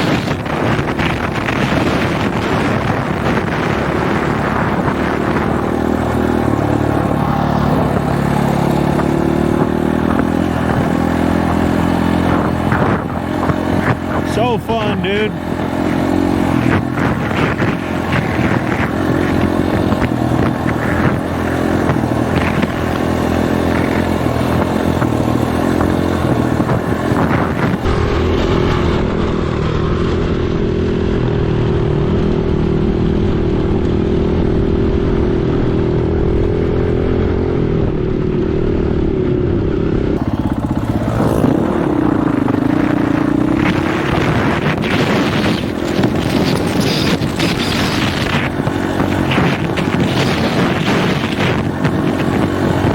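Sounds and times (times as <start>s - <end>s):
dirt bike engine running: 0.0s - 52.9s
wind buffeting microphone: 0.0s - 52.9s.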